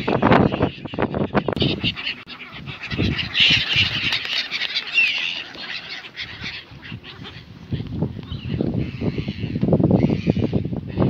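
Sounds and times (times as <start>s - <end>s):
gulls squawking: 0.0s - 11.0s.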